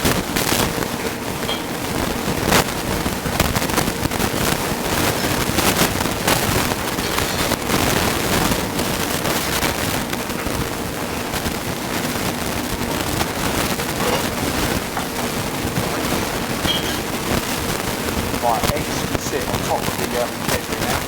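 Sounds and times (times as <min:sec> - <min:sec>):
food sizzling in a pan: 0:00.0 - 0:20.4.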